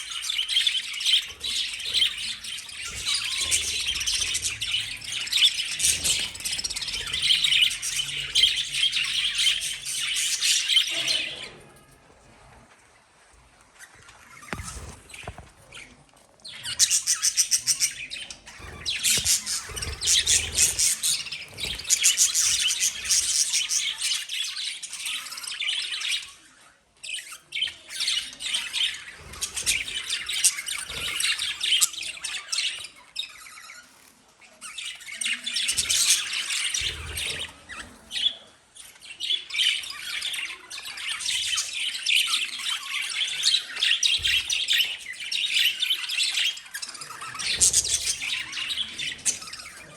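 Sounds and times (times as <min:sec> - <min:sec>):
birds chirping and squawking: 0:00.0 - 0:49.9.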